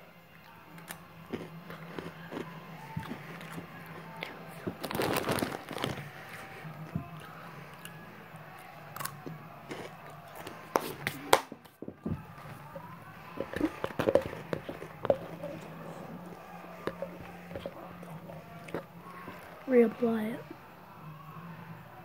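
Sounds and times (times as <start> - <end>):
snacks crunching and chewing: 0.3 - 19.7.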